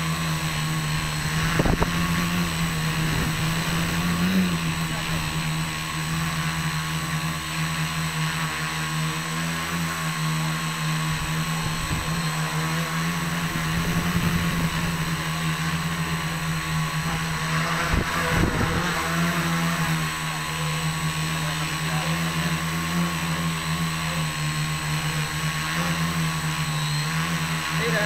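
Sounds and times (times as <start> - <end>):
drone motors humming: 0.0 - 28.0.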